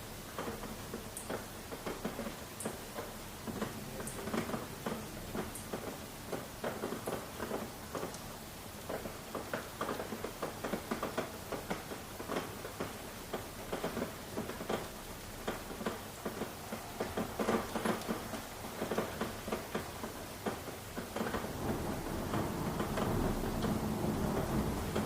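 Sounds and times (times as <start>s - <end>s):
rain hiss: 0.0s - 25.0s
raindrops pattering on a surface: 0.0s - 25.0s.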